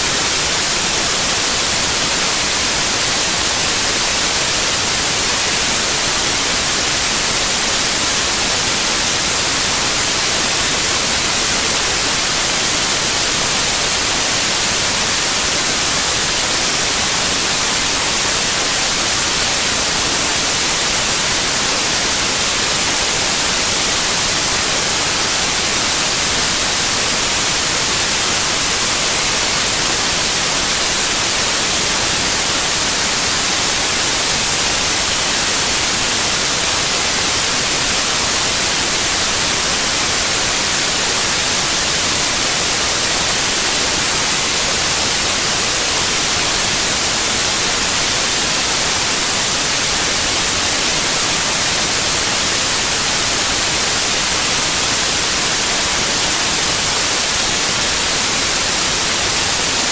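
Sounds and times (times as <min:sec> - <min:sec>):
loud electronic static hiss: 0:00.0 - 0:59.9.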